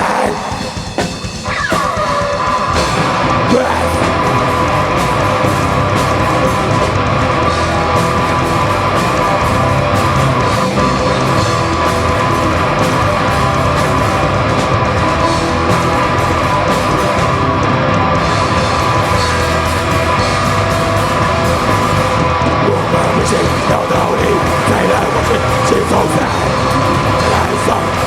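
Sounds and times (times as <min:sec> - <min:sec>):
bass guitar: 0:00.0 - 0:28.0
distorted electric guitars: 0:00.0 - 0:28.0
drums: 0:00.0 - 0:28.0.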